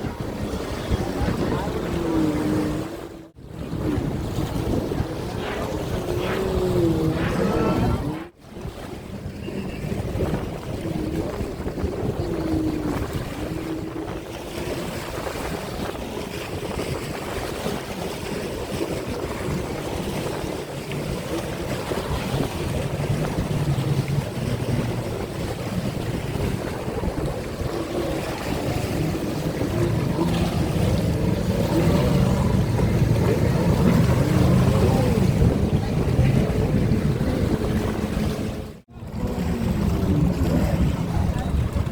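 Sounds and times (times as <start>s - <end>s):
jet ski engines: 0.0s - 41.9s
wind buffeting microphone: 0.0s - 41.9s.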